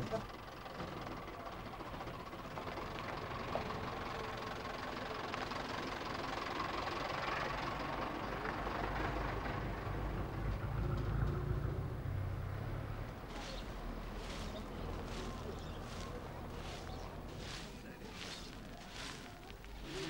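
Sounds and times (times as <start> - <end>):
minibus engine rumble: 0.0 - 20.0.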